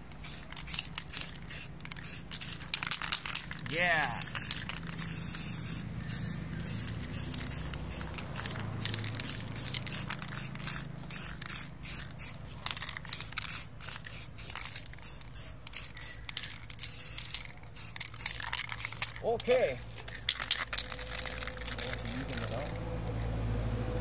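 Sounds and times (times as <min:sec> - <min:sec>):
spray paint can hissing: 0:00.0 - 0:23.3.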